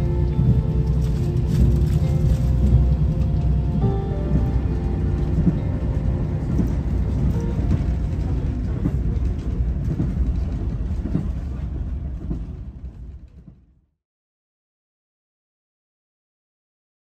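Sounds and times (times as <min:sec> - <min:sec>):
train rumbling: 0:00.0 - 0:13.8.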